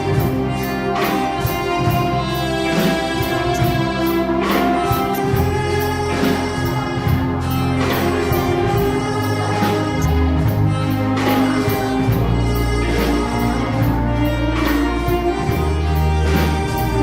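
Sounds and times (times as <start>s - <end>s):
live band playing slow song: 0.0s - 17.0s.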